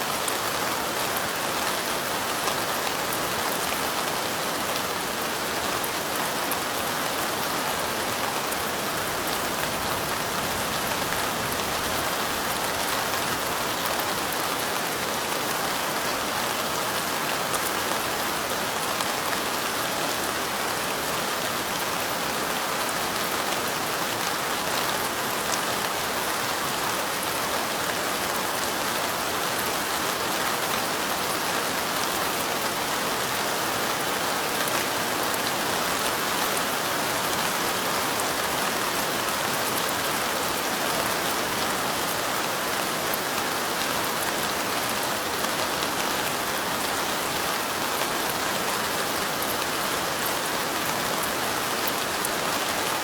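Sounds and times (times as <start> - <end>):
light rain falling: 0.0 - 53.0.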